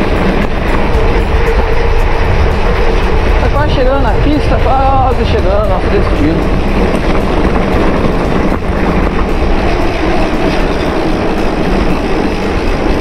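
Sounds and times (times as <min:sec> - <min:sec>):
bike tyres rolling: 0:00.0 - 0:13.0
wind buffeting microphone: 0:00.0 - 0:13.0.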